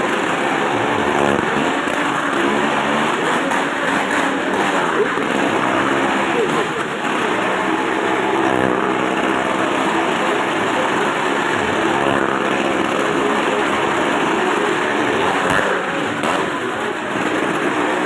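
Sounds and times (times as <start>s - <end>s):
small motorcycle engines running: 0.0s - 18.0s.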